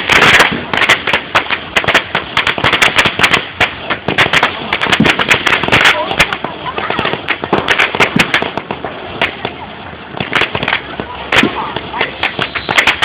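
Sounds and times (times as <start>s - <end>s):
firecracker bangs crackling: 0.0s - 13.0s.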